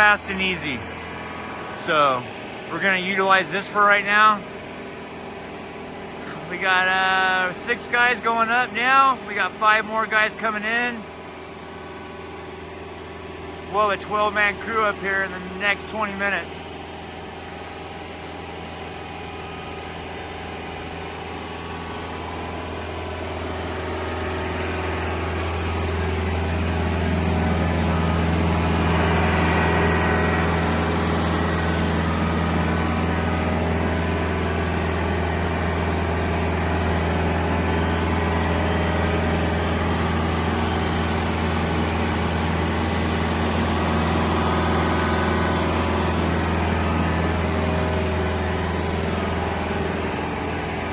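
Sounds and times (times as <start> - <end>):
heavy equipment engine running: 0.0 - 50.9.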